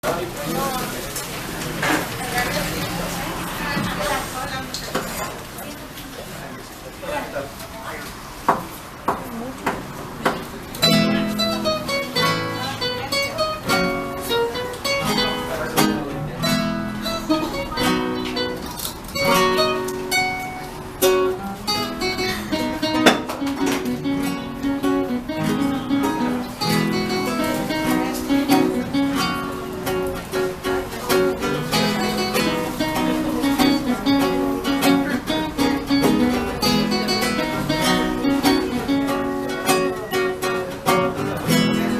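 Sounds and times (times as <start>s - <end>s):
acoustic guitar strummed and plucked: 0.0s - 4.8s, 10.4s - 41.9s.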